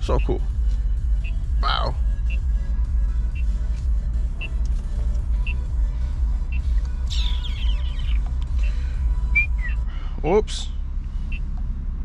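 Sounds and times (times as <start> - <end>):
car driving rumble from cabin: 0.0 - 12.0.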